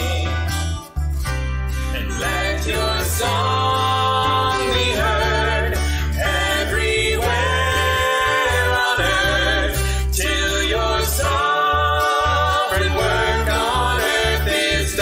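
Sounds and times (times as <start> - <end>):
man and women singing: 0.0 - 0.5, 2.0 - 15.0
instrumental accompaniment with bass: 0.0 - 15.0.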